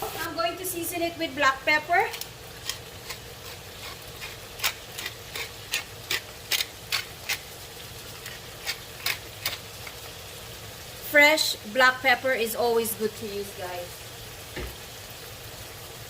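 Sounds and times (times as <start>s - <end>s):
faint sizzle from pan: 0.0s - 16.0s.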